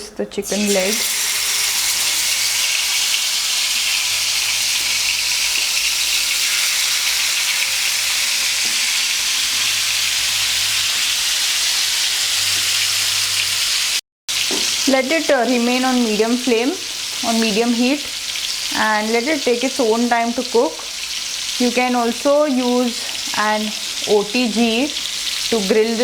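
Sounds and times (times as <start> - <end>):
chicken sizzling in frying pan: 0.5 - 26.0.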